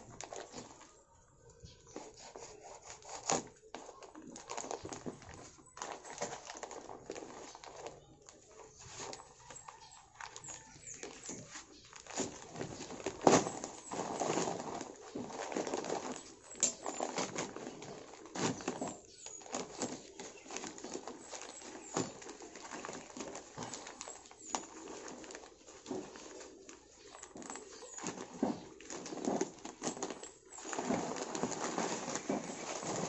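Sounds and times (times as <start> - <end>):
plastic sack rustling: 0.0 - 33.0.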